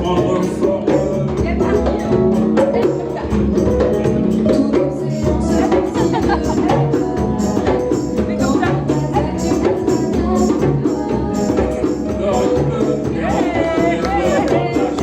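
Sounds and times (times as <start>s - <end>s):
live band music: 0.0s - 15.0s
percussion beat: 0.0s - 15.0s.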